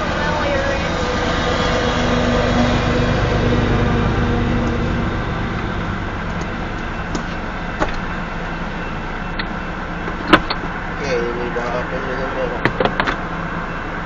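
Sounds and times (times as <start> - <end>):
steady low tone: 0.0 - 12.7
train wheels rumbling on rail: 0.0 - 14.0.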